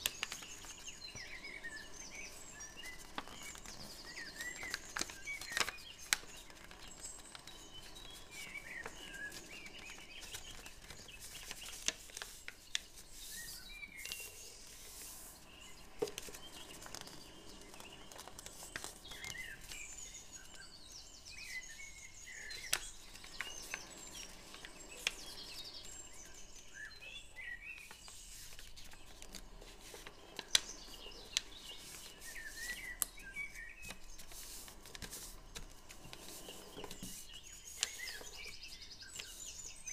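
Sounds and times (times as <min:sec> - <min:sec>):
paper crinkling and creasing: 0:00.0 - 0:20.7, 0:21.4 - 0:39.9
birds chirping faintly: 0:00.0 - 0:39.9.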